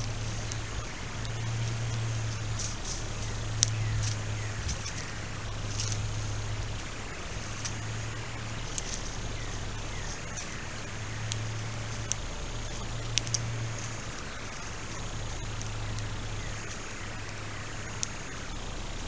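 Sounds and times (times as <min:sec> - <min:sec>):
sharp clicks: 0:00.0 - 0:18.8
steady low hum: 0:00.0 - 0:19.0.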